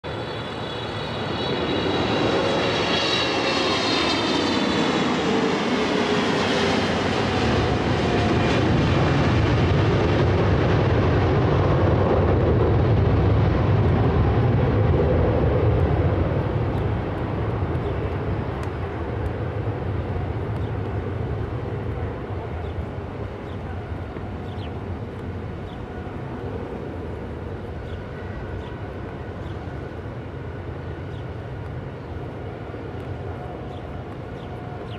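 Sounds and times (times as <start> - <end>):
jet engine low rumble: 0.0 - 34.9
jet engine whine: 0.0 - 34.9.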